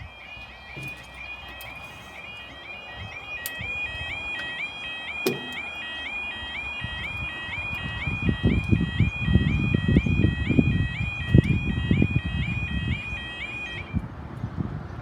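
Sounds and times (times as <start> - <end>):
level crossing alarm warbling: 0.0 - 14.0.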